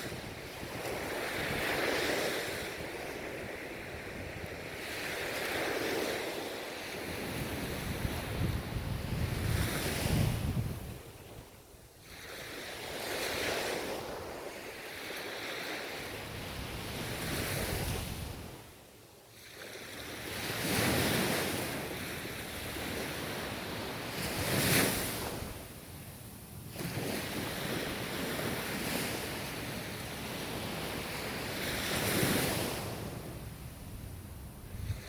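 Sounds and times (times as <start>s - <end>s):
ocean surf washing ashore: 0.0s - 35.0s.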